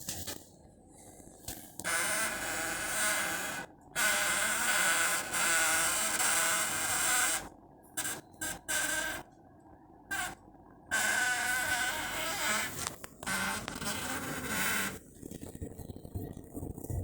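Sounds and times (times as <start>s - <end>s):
air purifier filter squeaking: 1.8s - 9.3s, 10.1s - 16.4s.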